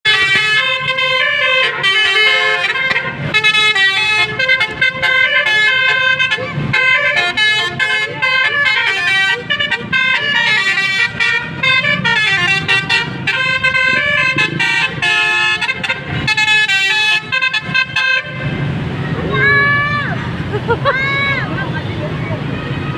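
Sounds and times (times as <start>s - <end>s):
musical bus air horn: 0.1s - 18.6s.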